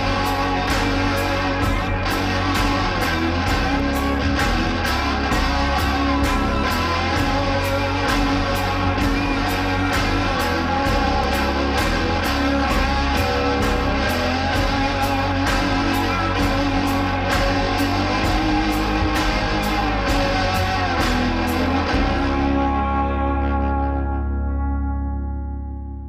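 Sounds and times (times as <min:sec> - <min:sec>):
rock music with guitar: 0:00.0 - 0:26.0.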